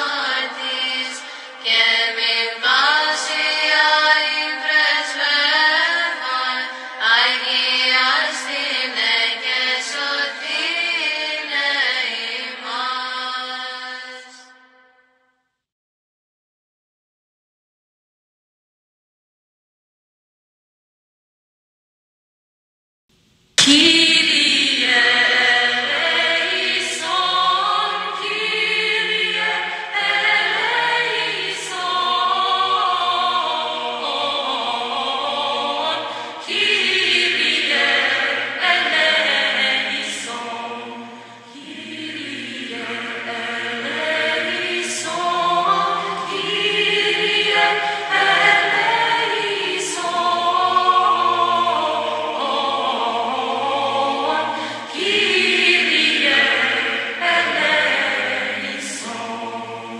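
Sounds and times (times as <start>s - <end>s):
choir chanting: 0.0s - 14.8s, 23.6s - 59.9s.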